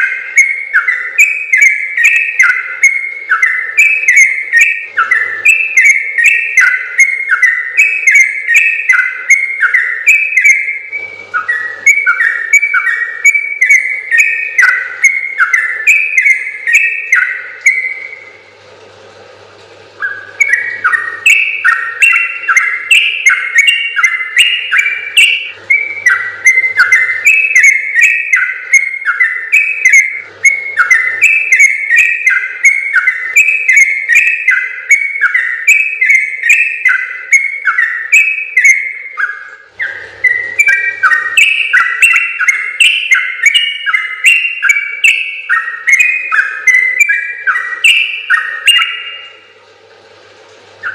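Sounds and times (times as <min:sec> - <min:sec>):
bird singing bubbling notes: 0:00.0 - 0:49.8, 0:50.5 - 0:50.9.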